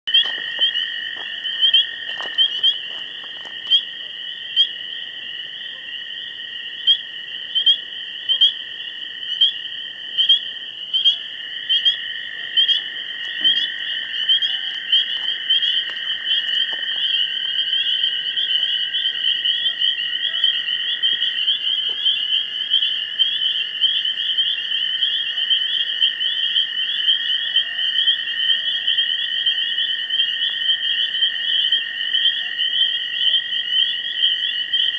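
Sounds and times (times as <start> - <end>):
frog calls: 0.1 - 34.9
frogs and insects trilling: 0.1 - 34.9.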